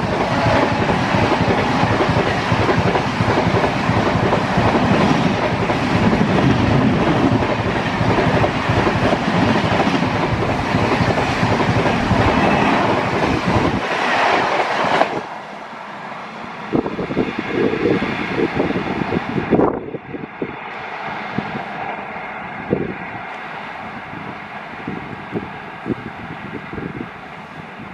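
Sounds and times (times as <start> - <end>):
train rushing past: 0.0 - 27.9.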